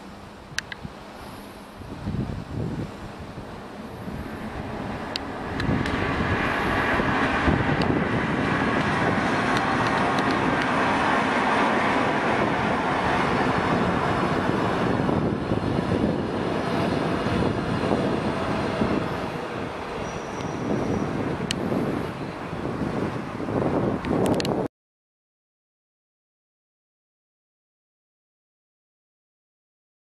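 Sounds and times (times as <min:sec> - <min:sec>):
train wheels rumbling on rail: 0:00.0 - 0:24.7.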